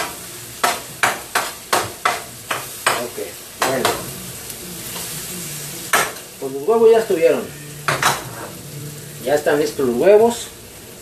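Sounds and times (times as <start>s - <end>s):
utensil scraping frying pan: 0.0s - 10.3s
eggs sizzling: 0.0s - 11.0s.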